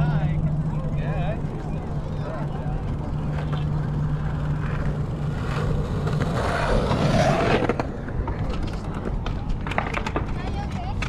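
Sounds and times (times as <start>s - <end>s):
bicycle tyres rolling on concrete: 0.0s - 11.0s
steady low hum: 0.0s - 11.0s.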